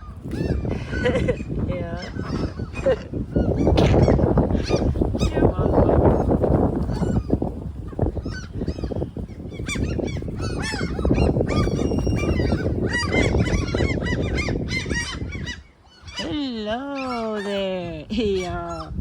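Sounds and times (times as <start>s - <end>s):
harsh bird calls: 0.0s - 19.0s
wind rumbling on microphone: 0.0s - 19.0s.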